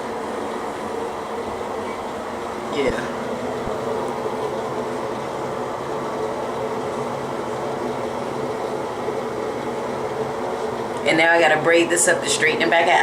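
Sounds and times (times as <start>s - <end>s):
mechanical hum of small motor: 0.0s - 13.0s.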